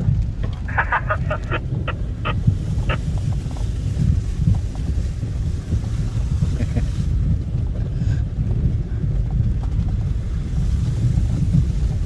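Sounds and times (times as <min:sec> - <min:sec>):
vehicle low rumble: 0:00.0 - 0:12.0
wind buffeting microphone: 0:00.0 - 0:12.0.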